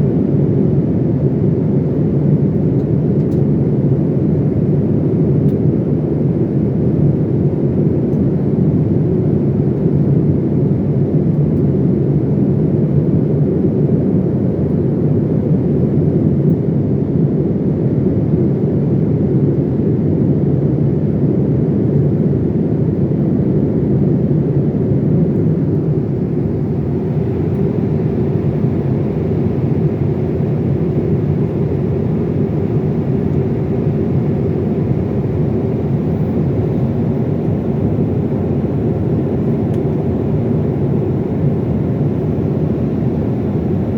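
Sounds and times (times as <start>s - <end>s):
airliner cabin engine noise: 0.0s - 43.9s.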